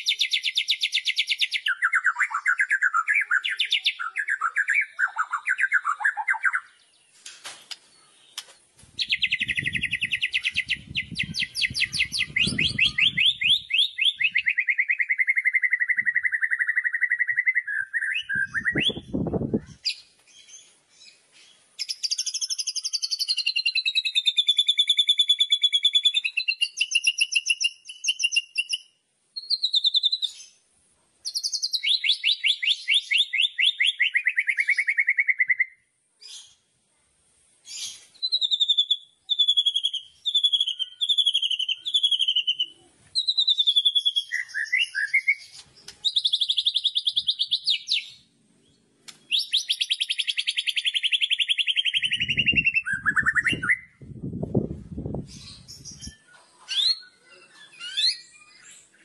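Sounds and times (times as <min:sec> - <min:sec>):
bird singing rattling phrases: 0:00.0 - 0:30.6, 0:31.2 - 0:35.8, 0:37.7 - 0:59.0.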